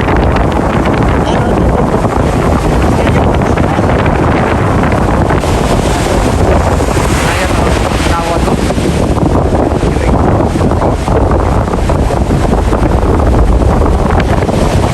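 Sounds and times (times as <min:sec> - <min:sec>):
ocean waves: 0:00.0 - 0:14.9
wind buffeting microphone: 0:00.0 - 0:14.9.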